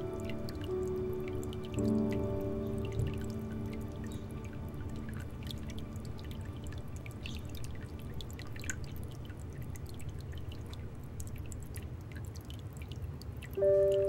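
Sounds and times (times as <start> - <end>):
water drips: 0.0 - 14.0
water trickling into pond: 0.0 - 14.0.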